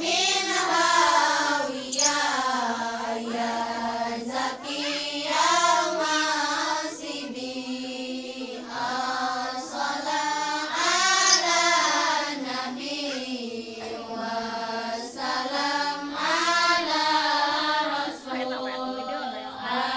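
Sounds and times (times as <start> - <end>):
women and girls chanting in unison: 0.0 - 19.9.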